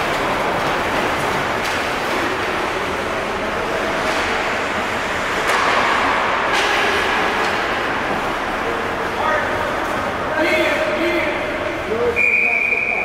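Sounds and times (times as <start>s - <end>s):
skating and rink noise: 0.0s - 13.0s.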